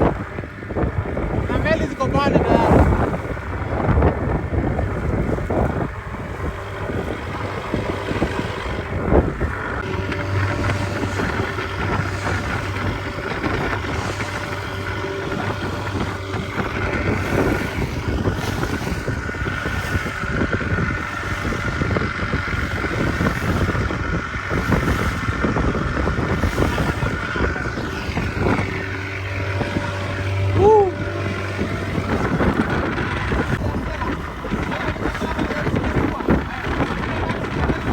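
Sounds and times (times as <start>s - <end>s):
boat motor running: 0.0s - 37.9s
wind buffeting microphone: 0.0s - 37.9s.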